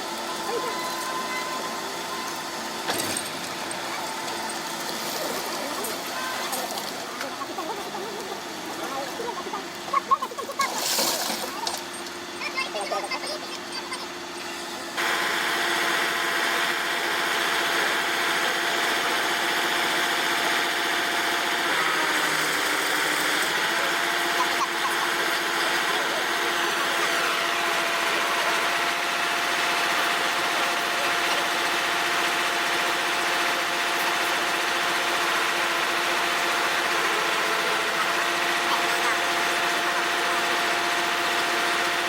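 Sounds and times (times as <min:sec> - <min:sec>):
engine running steadily: 0:00.0 - 0:42.0.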